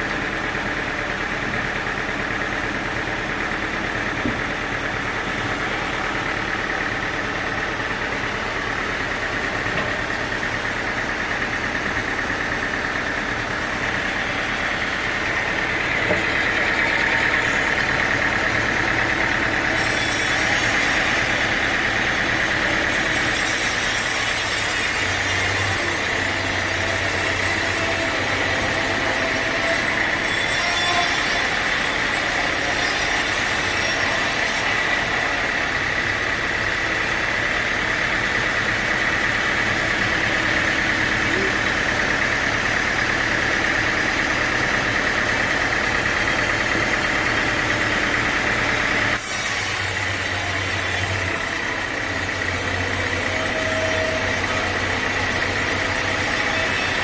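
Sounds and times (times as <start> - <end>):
sawmill engine drone: 0.0 - 57.0.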